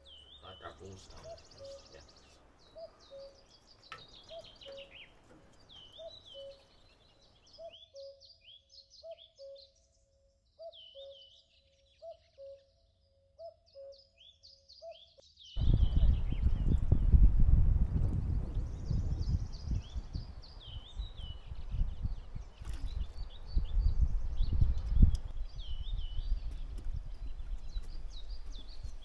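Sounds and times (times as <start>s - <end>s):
birds singing: 0.0s - 17.4s, 18.1s - 29.0s.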